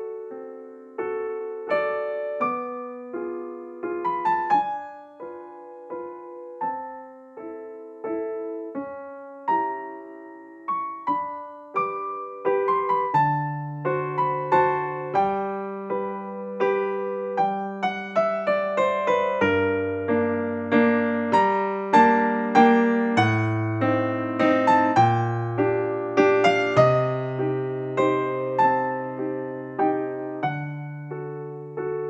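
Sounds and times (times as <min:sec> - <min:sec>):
gentle piano piece: 0:00.0 - 0:32.0.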